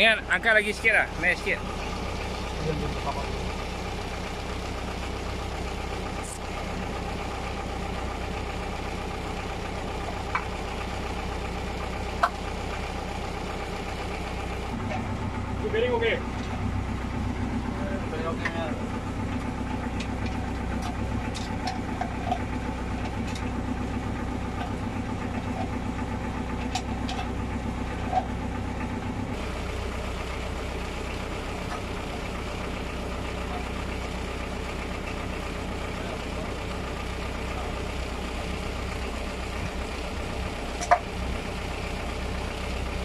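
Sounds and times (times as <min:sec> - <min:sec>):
low engine hum: 0:00.0 - 0:43.0.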